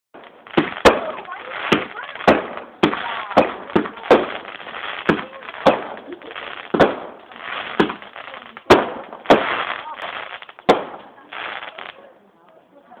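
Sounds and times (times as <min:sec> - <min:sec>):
fireworks bangs and cracks: 0:00.2 - 0:12.1.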